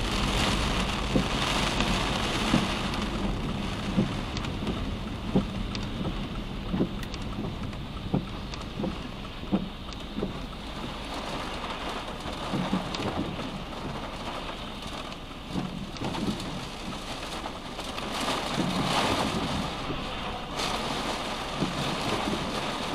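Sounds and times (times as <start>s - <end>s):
heavy rain drumming on a car: 0.0s - 22.9s
lorry passing on wet road: 0.0s - 22.9s
windscreen wipers thudding: 0.0s - 22.9s.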